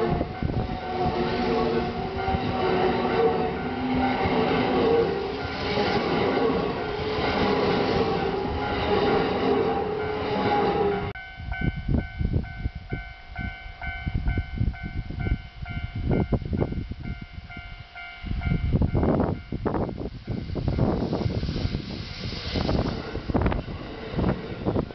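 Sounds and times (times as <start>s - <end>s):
railway crossing warning bell: 0.0s - 22.3s
train rumbling past: 0.0s - 24.9s
wind buffeting microphone: 0.0s - 24.9s.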